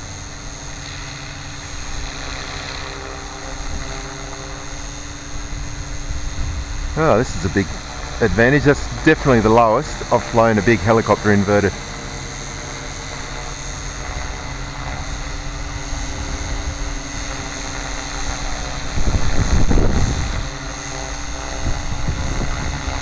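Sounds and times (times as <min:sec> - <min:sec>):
rc helicopter rotor whine: 0:00.0 - 0:23.0.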